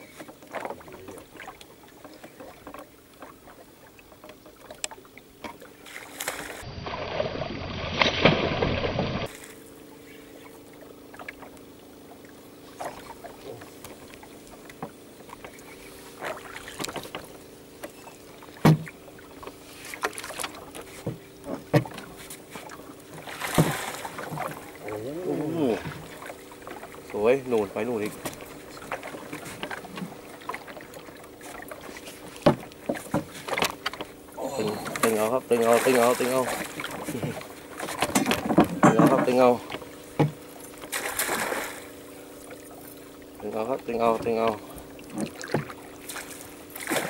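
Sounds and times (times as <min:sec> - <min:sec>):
clicks and knocks from boat: 0:00.0 - 0:06.6, 0:10.4 - 0:25.0, 0:25.8 - 0:47.0
faint steady hum: 0:00.0 - 0:07.0, 0:08.6 - 0:47.0.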